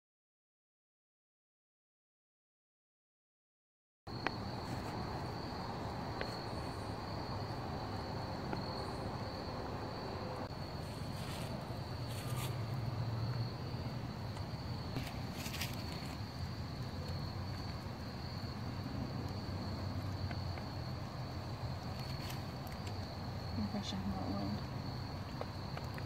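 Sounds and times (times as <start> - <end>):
insects trilling: 4.1 - 26.0.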